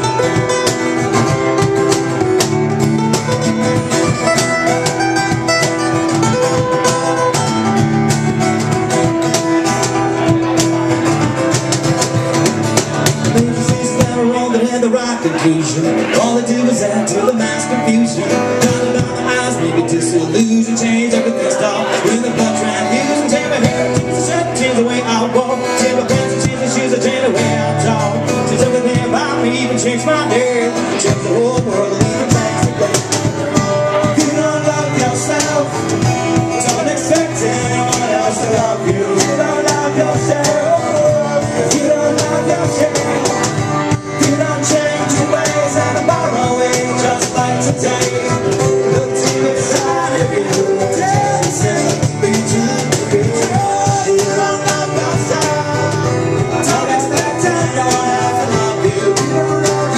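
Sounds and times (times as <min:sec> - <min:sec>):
strummed acoustic guitars: 0:00.0 - 0:59.9.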